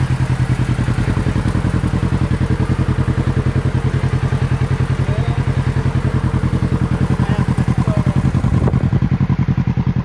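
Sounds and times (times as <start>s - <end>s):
engine running while driving: 0.0s - 10.0s.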